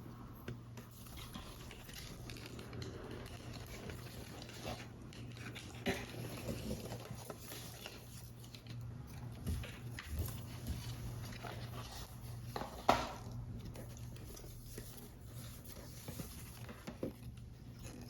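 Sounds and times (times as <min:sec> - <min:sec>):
paper and card rustling: 0:00.7 - 0:18.0.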